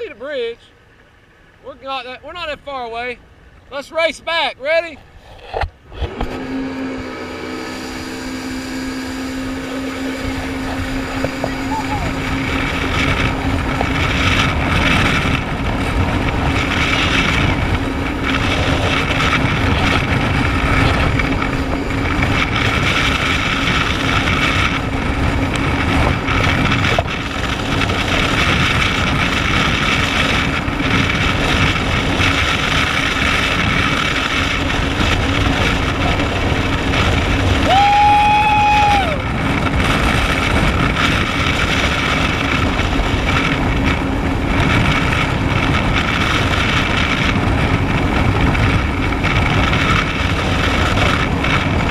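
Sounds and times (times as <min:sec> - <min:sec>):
jet ski engine running: 0:00.0 - 0:51.9
wind buffeting microphone: 0:04.3 - 0:51.9
water rushing past hull: 0:05.1 - 0:51.9.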